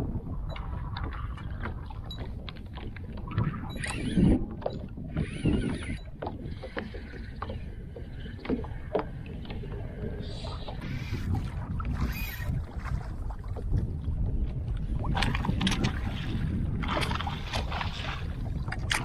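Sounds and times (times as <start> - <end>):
water lapping at hull: 0.0 - 19.0.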